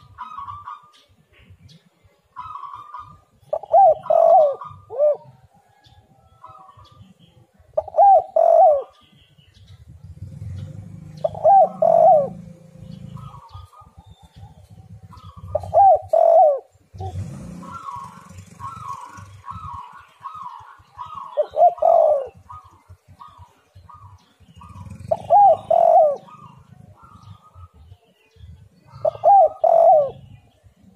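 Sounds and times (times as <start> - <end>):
dove cooing: 0.0 - 9.2, 10.0 - 30.9
birds chirping: 0.0 - 30.9.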